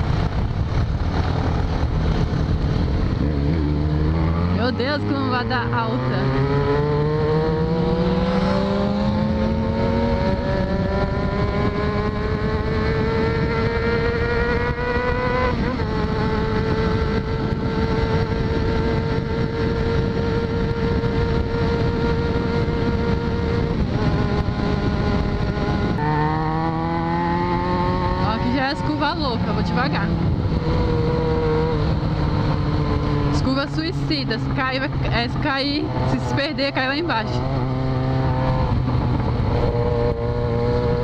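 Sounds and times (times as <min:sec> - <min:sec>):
motorcycle engine revving through gears: 0:00.0 - 0:41.0
wind and road noise: 0:00.0 - 0:41.0.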